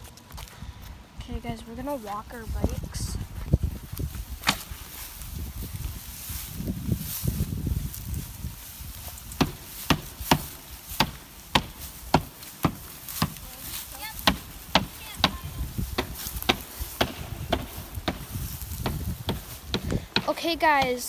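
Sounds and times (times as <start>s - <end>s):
footsteps crunching through dry grass: 0.0s - 21.0s.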